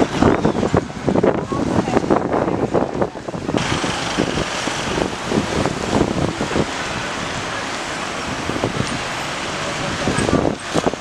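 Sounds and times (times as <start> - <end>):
roadside traffic: 0.0 - 11.0
wind on the microphone: 0.0 - 11.0.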